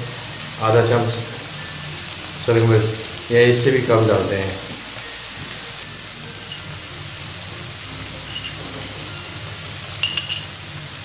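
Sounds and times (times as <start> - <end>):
masala sizzling in frying pan: 0.0 - 11.0.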